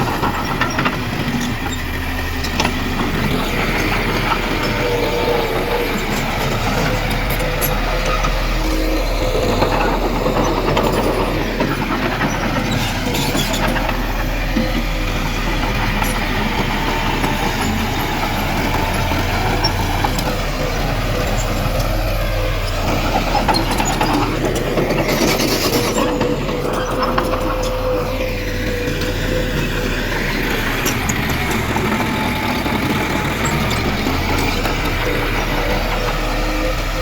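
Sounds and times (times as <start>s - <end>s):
diesel machinery engine drone: 0.0s - 37.0s
machinery whine: 0.0s - 37.0s.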